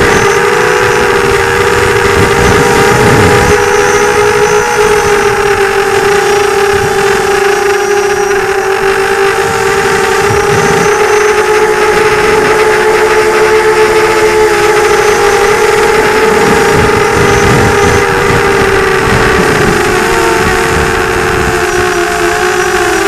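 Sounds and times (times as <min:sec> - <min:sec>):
drone propellers whining: 0:00.0 - 0:23.0
wind rumbling on microphone: 0:00.0 - 0:23.0.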